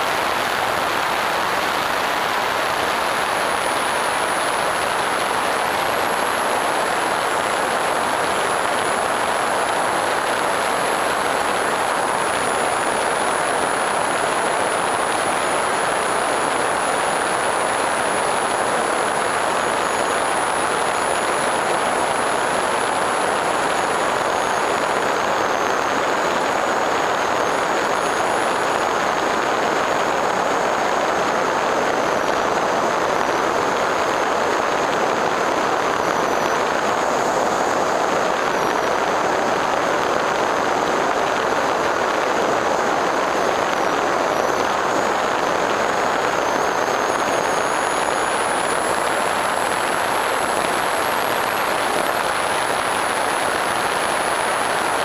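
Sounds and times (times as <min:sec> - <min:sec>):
airflow and propeller rush: 0:00.0 - 0:40.4, 0:43.2 - 0:55.0
high electric motor whine: 0:00.0 - 0:55.0.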